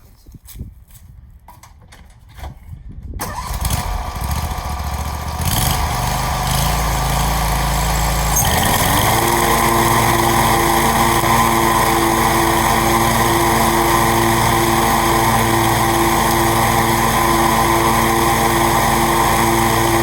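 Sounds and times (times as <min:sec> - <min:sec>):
mower blades humming: 0:03.2 - 0:20.0
riding mower engine running: 0:03.2 - 0:20.0.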